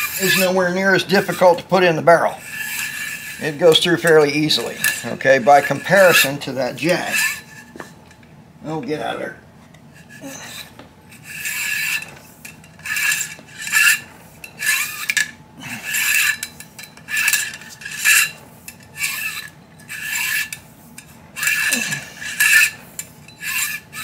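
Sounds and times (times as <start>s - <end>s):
bore brush scraping in rifle barrel: 0.0s - 8.0s, 10.0s - 15.2s, 15.8s - 24.0s.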